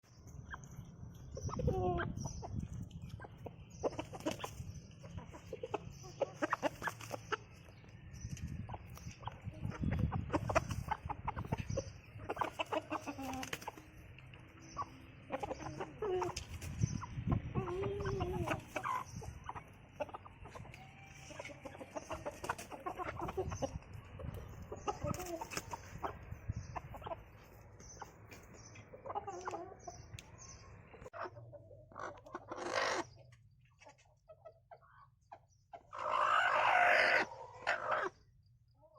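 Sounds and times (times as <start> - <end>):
chickens clucking: 0.1 - 38.9.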